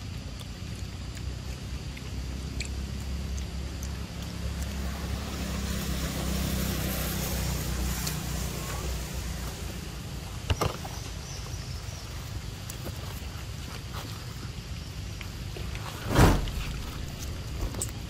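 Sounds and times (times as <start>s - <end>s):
low outdoor rumble and hiss: 0.0s - 18.0s.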